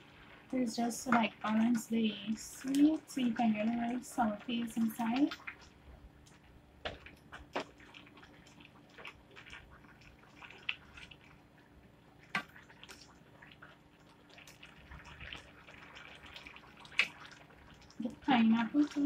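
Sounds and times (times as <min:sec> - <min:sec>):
spatula stirring jam in a pan: 0:00.0 - 0:19.0.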